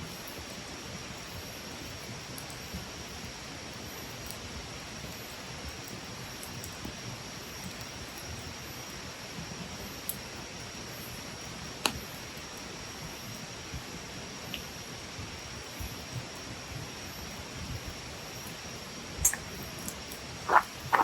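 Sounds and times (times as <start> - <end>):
campfire hissing and crackling: 0.0 - 21.0.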